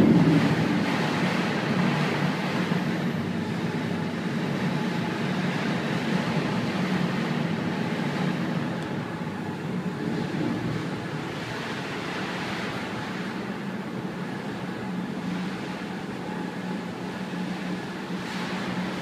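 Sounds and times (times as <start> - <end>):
low rumble inside ferry: 0.0 - 19.0.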